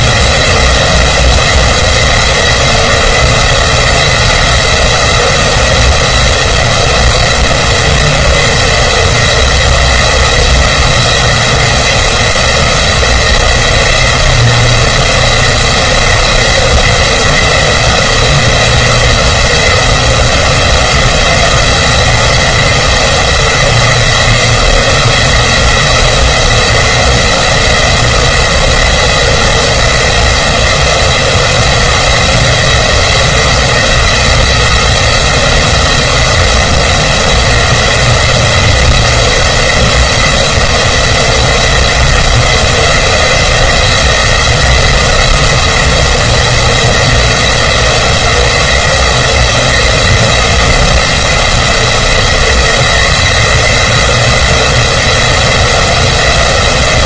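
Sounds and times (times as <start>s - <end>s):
mechanical drone with high whine: 0.0s - 57.0s.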